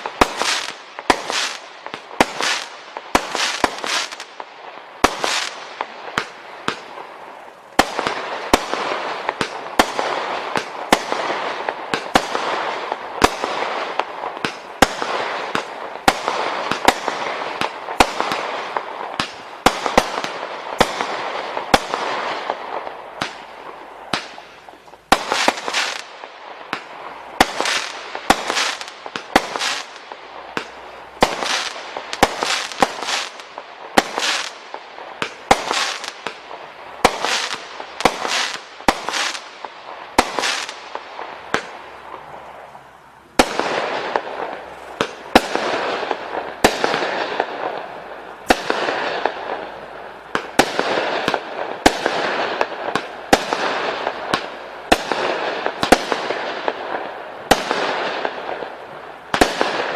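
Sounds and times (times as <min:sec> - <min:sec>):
firework bangs: 0:00.0 - 0:42.7, 0:43.4 - 0:59.9
firework crackling: 0:00.0 - 0:59.9.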